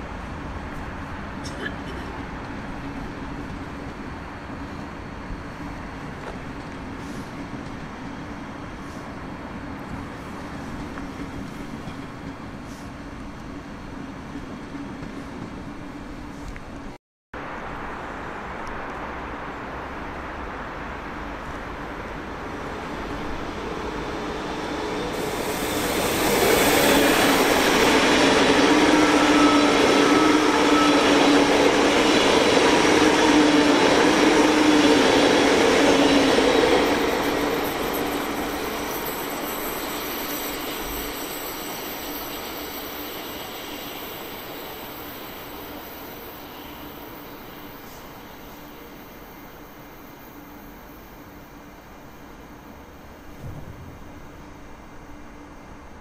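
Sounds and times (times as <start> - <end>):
electric train passing: 0.0 - 16.3, 17.4 - 56.0.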